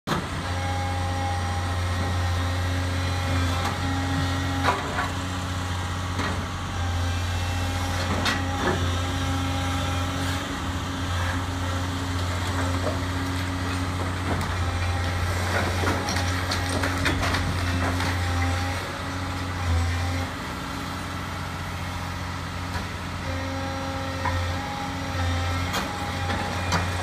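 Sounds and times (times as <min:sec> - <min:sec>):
excavator diesel engine running: 0:00.1 - 0:27.0.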